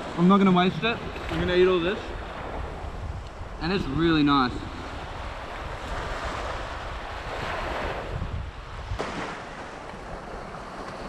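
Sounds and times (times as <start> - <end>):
small waves washing onto sand: 0.0 - 11.0
wind rumbling on microphone: 0.0 - 11.0.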